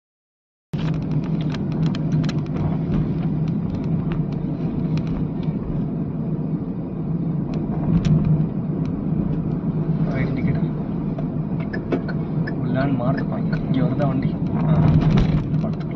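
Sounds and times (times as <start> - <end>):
road rumble: 0.7 - 15.9
car engine running: 0.8 - 15.9.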